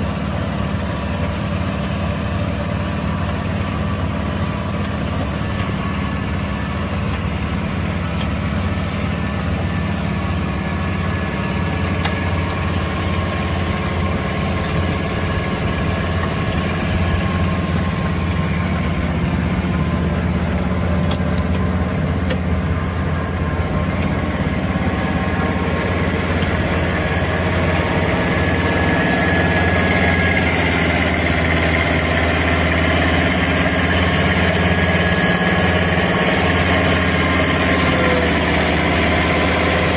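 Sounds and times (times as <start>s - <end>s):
farm machine engine running: 0.0s - 39.9s.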